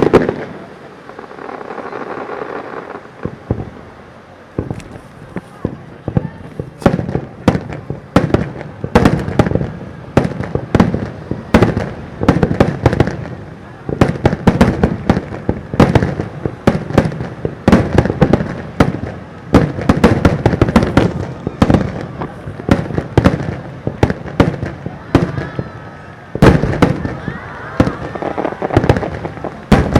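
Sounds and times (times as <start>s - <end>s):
fireworks booming and cracking: 0.0s - 29.9s.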